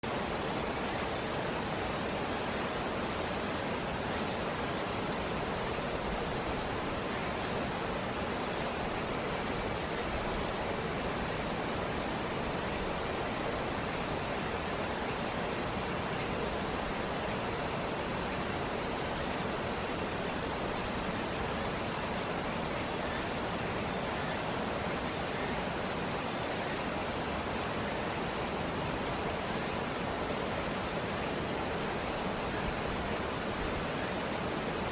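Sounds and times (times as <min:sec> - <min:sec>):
insects buzzing in chorus: 0:00.0 - 0:34.9
soft outdoor hiss: 0:00.0 - 0:34.9.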